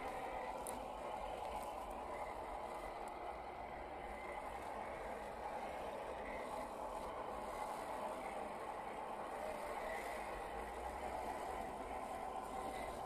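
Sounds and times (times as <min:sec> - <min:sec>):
electric motor and gear whir: 0:00.0 - 0:13.0.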